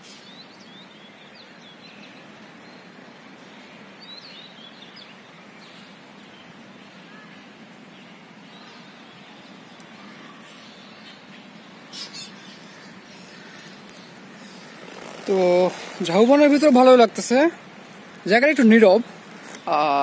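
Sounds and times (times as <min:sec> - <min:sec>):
rushing outdoor background noise: 0:00.0 - 0:20.0
small birds chirping: 0:00.0 - 0:20.0.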